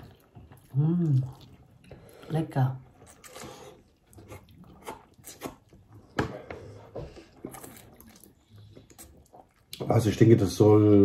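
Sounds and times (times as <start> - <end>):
people chewing and lip smacking: 0.0 - 10.2.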